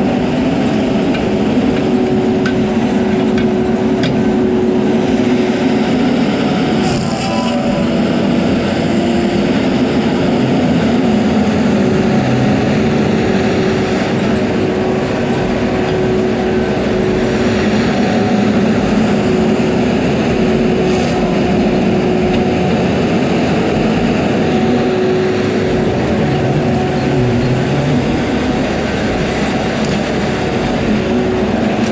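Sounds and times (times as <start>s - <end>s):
diesel engine under load: 0.0s - 31.9s
steady whine: 0.0s - 31.9s.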